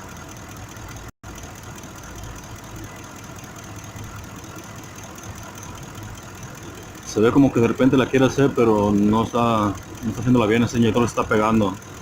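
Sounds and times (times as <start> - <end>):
engine idling with misfire: 0.0 - 12.0.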